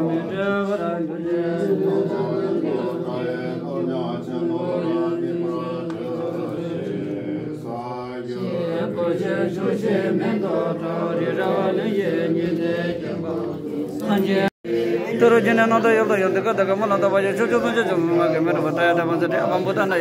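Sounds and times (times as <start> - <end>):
men chanting in low voices: 0.0 - 20.0.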